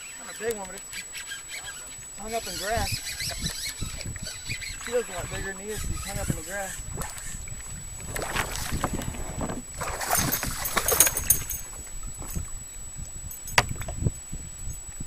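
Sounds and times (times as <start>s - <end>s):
water splashing around kayak: 0.0s - 12.6s.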